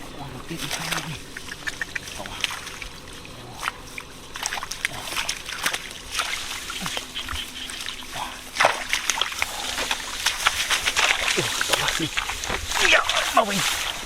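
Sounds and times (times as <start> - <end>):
shallow water splashing: 0.0 - 14.0
water dripping: 0.0 - 14.0.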